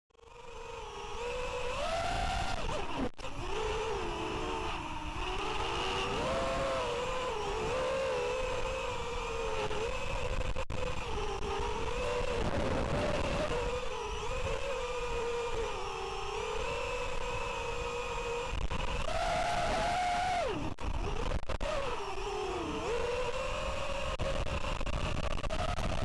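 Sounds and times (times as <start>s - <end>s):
drone motors whining: 0.1s - 26.0s.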